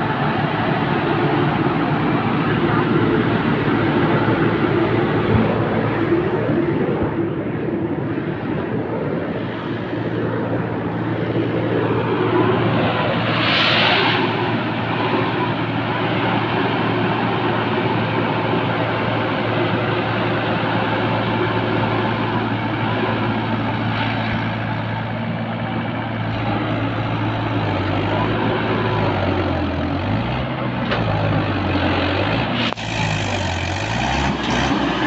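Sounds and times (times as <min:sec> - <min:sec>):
diesel tractor engine under load: 0:00.0 - 0:35.0.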